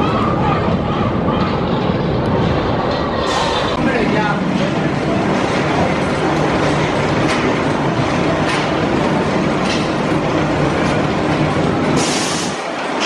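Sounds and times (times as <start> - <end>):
roller coaster wheels rumbling: 0.0 - 13.0
light track clacks: 1.3 - 13.0.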